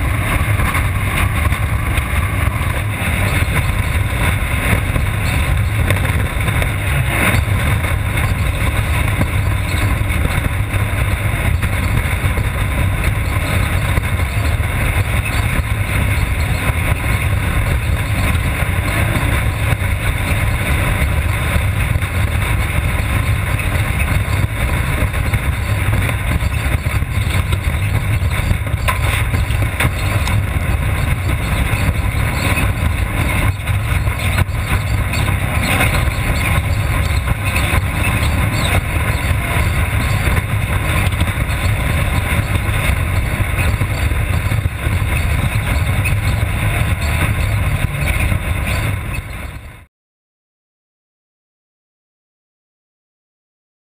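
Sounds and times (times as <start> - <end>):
race car engine rumble: 0.0 - 49.9.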